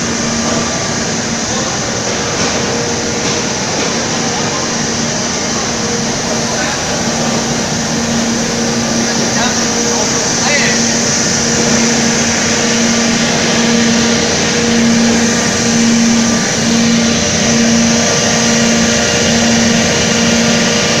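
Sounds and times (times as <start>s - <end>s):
furnace machinery noise: 0.0s - 21.0s
pulsing hum: 0.0s - 21.0s.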